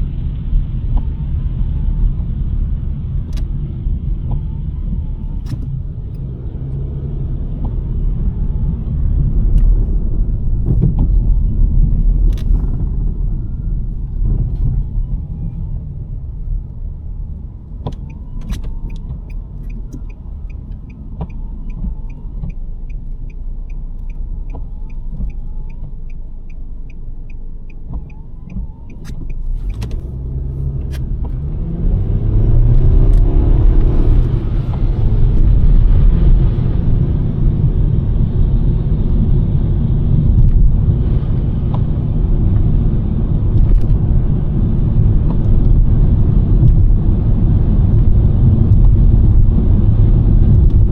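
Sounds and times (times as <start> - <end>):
engine and road rumble: 0.0 - 50.9
tyre and road noise: 0.0 - 50.9
turn signal ticking: 0.2 - 50.9
turn signal clicks: 0.8 - 50.9.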